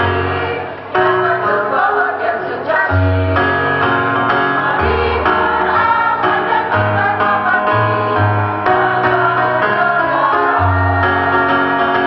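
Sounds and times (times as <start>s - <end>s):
women's choir singing: 0.0s - 12.0s.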